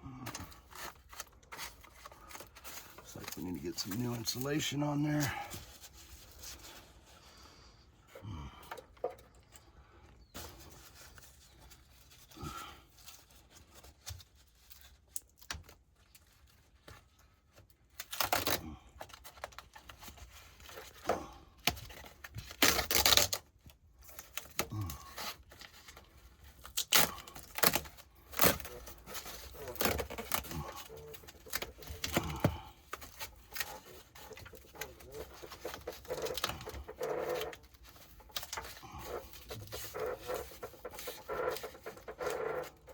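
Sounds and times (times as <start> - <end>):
pipe insulation tearing and crinkling: 0.0 - 42.9.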